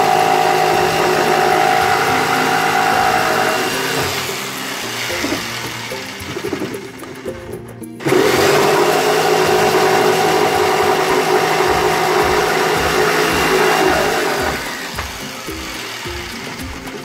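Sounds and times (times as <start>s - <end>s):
electric jigsaw cutting wood: 0.0s - 7.0s, 8.0s - 17.0s.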